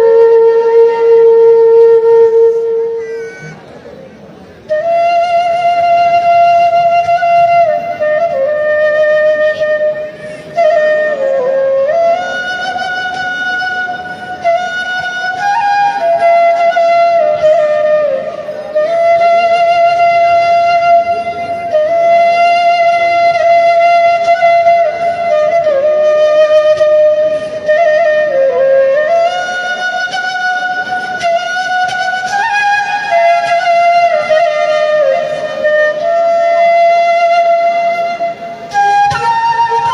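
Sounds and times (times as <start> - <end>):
solo flute melody: 0.0 - 39.9.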